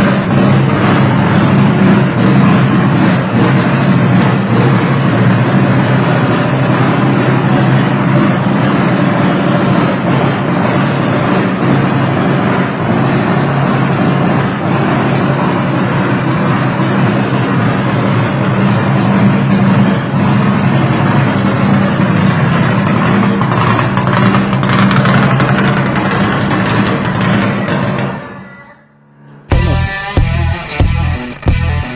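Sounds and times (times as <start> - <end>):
loud engine running steadily: 0.0 - 28.5, 29.5 - 31.9.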